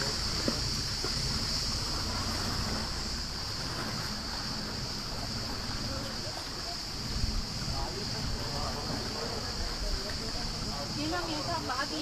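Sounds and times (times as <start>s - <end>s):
high-pitched hiss: 0.0s - 12.0s
water noise: 0.0s - 12.0s
wind: 0.0s - 12.0s.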